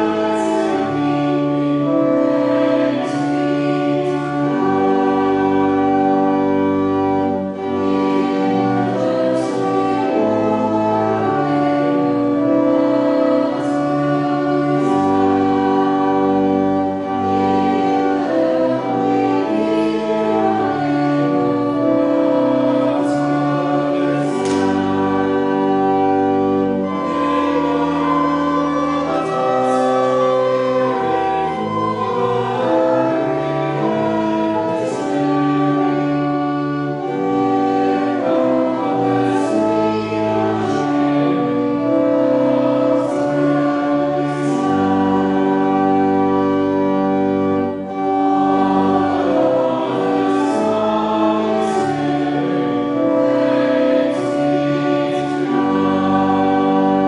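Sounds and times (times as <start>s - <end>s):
congregation singing a hymn: 0.0s - 57.0s
organ chords: 0.0s - 57.0s.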